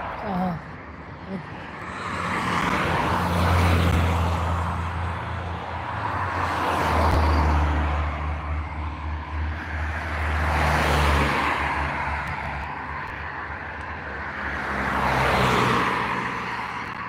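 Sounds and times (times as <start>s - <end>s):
cars passing close by: 0.0s - 17.0s.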